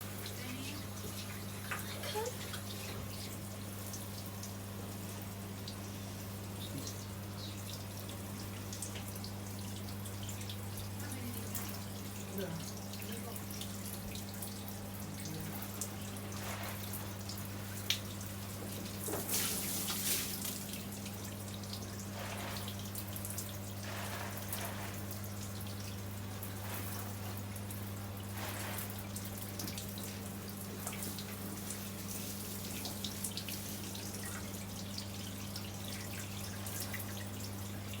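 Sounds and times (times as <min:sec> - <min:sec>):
water dripping: 0:00.0 - 0:38.0.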